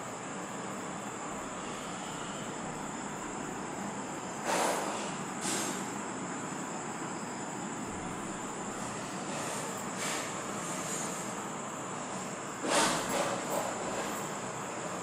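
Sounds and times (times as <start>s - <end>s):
high steady whine: 0.0s - 15.0s.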